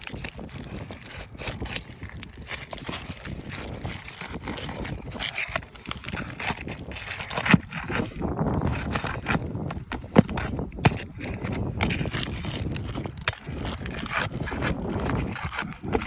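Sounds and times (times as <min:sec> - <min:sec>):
shingles scraping and tearing: 0:00.0 - 0:16.0.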